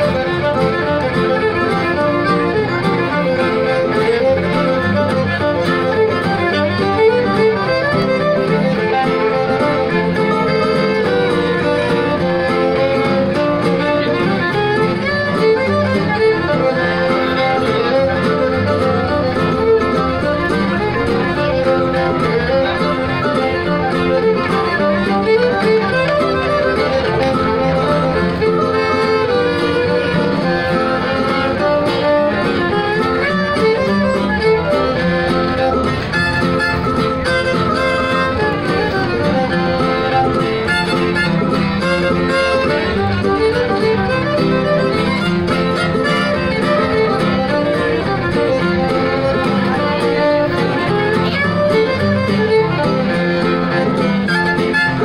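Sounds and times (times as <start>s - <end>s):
acoustic guitars strumming: 0.0s - 55.0s
fiddle melody: 0.0s - 55.0s.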